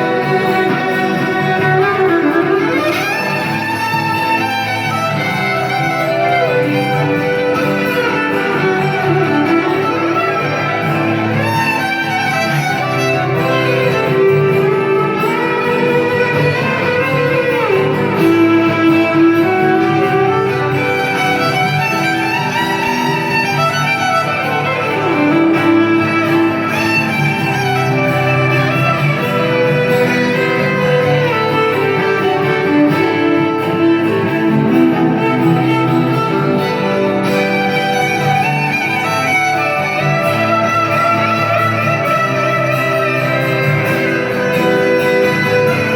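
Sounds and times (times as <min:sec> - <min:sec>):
live band music: 0:00.0 - 0:45.9
violin playing: 0:00.0 - 0:45.9.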